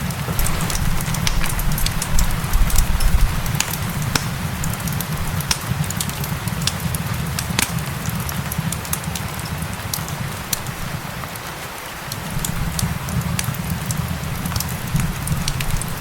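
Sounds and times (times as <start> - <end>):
fireplace crackling and popping: 0.0 - 16.0
rain hiss: 0.0 - 16.0.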